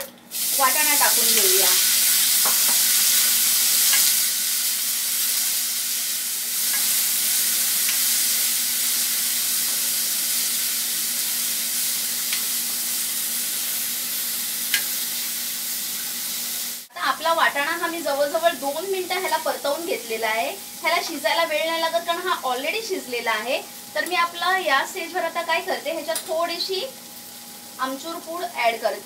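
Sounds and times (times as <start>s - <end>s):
peas sizzling in hot oil: 0.0s - 29.0s.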